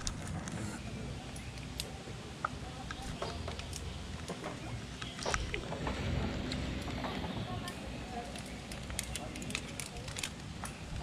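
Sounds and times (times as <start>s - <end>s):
low rumbling microphone noise: 0.0s - 11.0s.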